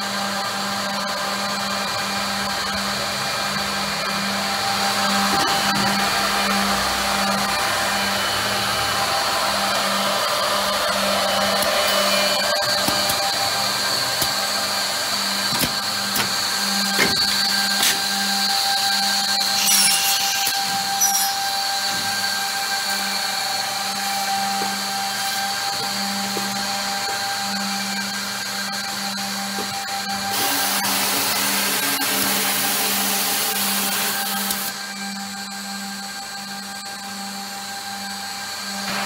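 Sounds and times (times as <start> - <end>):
machine motors whining: 0.0 - 39.0.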